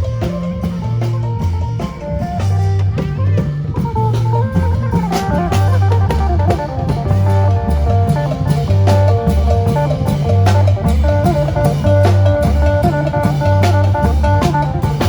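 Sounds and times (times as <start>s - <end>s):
repeating bass line: 0.0s - 15.0s
steady drum beat: 0.0s - 15.0s.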